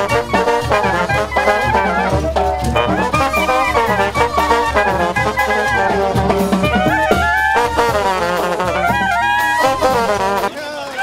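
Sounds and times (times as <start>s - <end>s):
brass band music: 0.0s - 11.0s.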